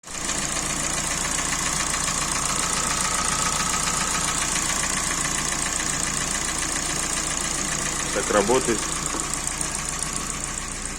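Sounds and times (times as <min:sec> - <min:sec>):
car engine running: 0:00.0 - 0:10.9
fast even engine knocking: 0:00.2 - 0:10.9.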